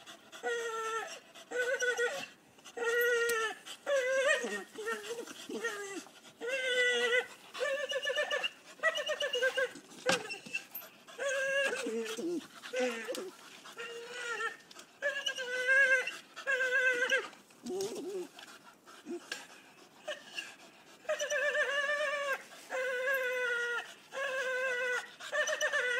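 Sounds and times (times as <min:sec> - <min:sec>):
dog whining: 0:00.0 - 0:18.4, 0:20.1 - 0:25.9.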